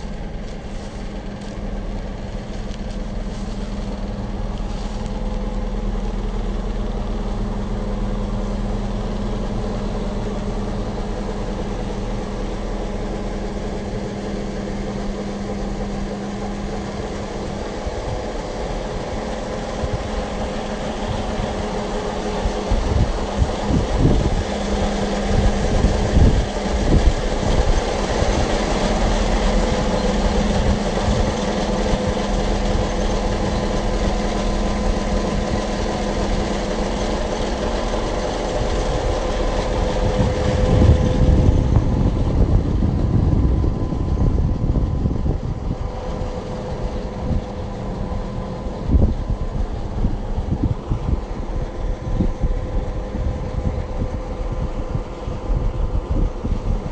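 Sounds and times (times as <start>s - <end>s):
excavator diesel engine idling: 0.0s - 56.9s
uneven low rumbling: 0.0s - 56.9s.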